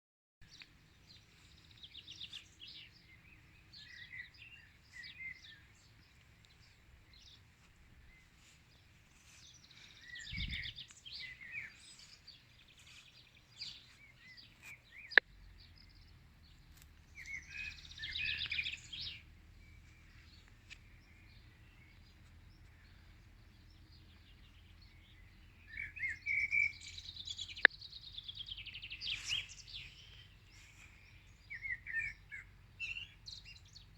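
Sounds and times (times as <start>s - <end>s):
songbirds singing: 0.4s - 33.9s.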